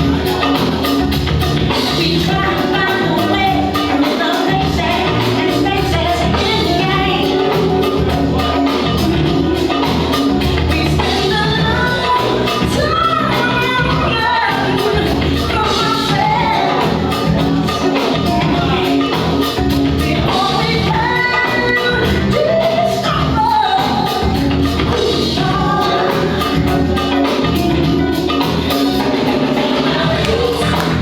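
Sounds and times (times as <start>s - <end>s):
funk music over sound system: 0.0s - 31.0s
steady drum beat: 0.0s - 31.0s
person singing: 1.7s - 31.0s.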